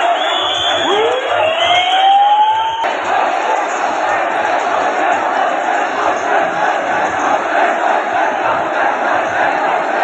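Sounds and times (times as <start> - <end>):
crowd shouting and cheering: 0.0 - 10.0.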